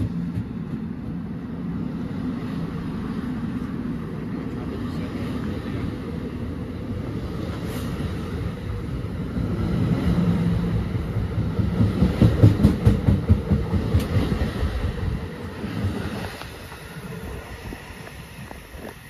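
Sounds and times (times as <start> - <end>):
low train rumble: 0.0 - 19.0.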